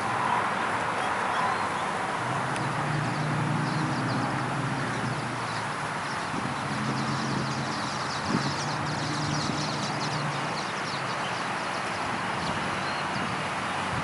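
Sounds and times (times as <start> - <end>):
small birds chirping: 2.5 - 13.8.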